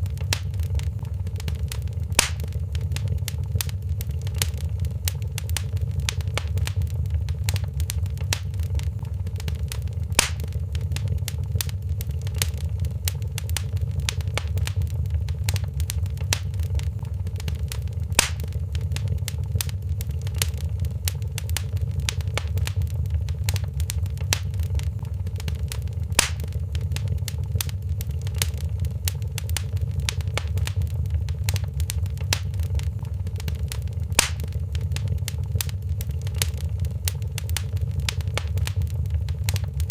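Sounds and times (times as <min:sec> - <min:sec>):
fire popping: 0:00.0 - 0:39.9
low fire rumble: 0:00.0 - 0:39.9
wood fire crackling: 0:00.0 - 0:39.9.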